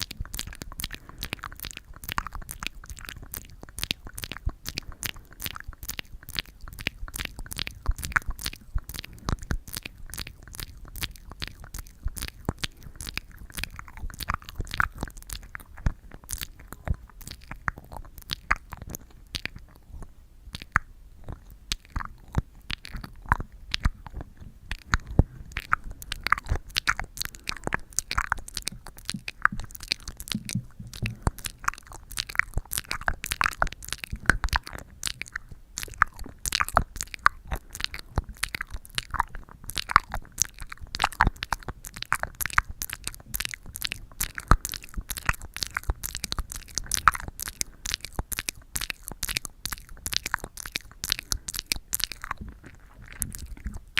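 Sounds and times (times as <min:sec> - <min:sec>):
sticky surface crackling and clicking: 0:00.0 - 0:19.9, 0:20.6 - 0:53.9.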